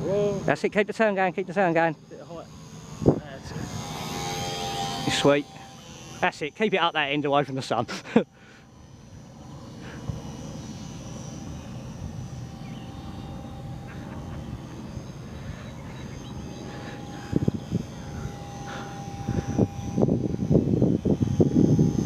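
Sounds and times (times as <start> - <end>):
model plane motor whine: 0.0 - 22.0.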